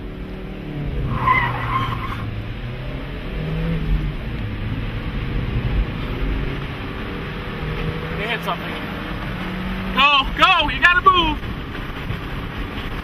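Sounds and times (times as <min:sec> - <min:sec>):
car engine accelerating: 0:00.0 - 0:13.0
wind and road noise: 0:00.0 - 0:13.0.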